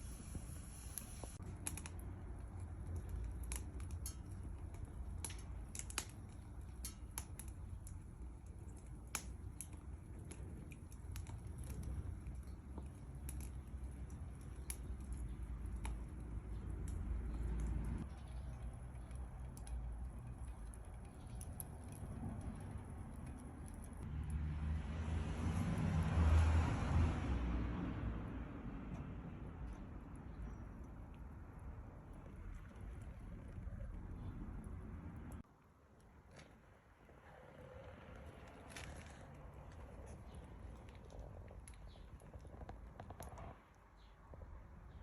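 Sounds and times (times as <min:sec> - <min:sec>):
wood crackling and popping: 0:00.0 - 0:24.4, 0:29.7 - 0:45.0
low fire rumble: 0:00.0 - 0:45.0.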